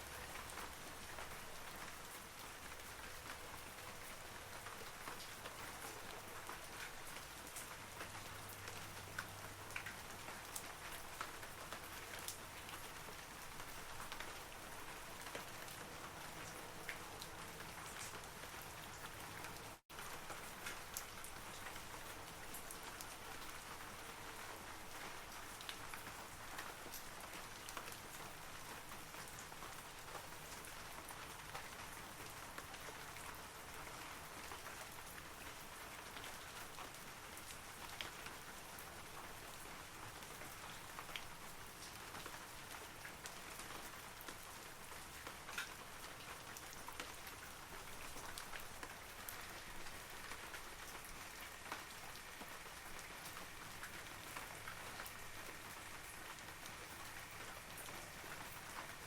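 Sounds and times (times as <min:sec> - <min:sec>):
rain falling on trees: 0:00.0 - 0:59.0.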